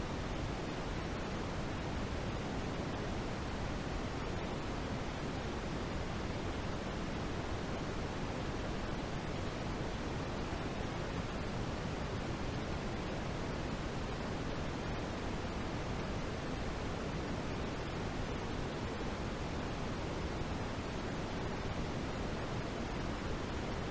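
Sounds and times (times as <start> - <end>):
steady low hiss: 0.0 - 23.9.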